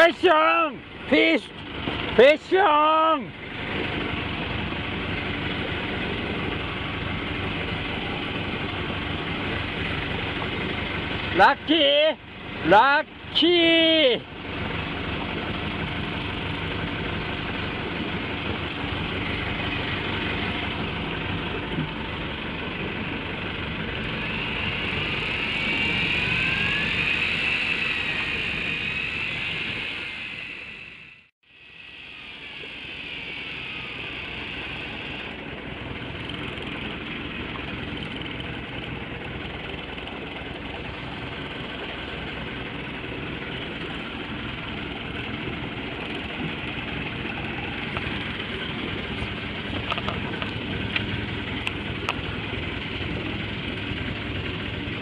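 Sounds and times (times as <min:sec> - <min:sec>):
boat engine idling: 0:00.0 - 0:55.0
electric reel whine: 0:00.0 - 0:55.0.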